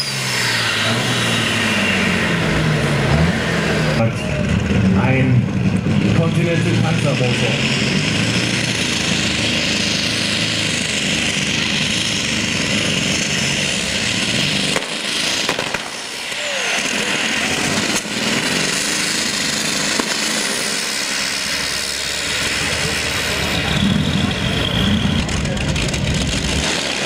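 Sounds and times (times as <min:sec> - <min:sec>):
tractor engine running loudly: 0:00.0 - 0:27.0.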